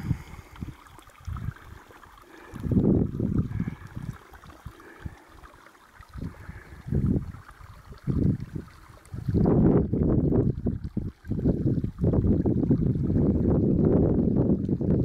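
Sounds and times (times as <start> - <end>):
wind buffeting the microphone: 0.0 - 5.2, 6.1 - 15.0
faint trickling water: 0.0 - 15.0.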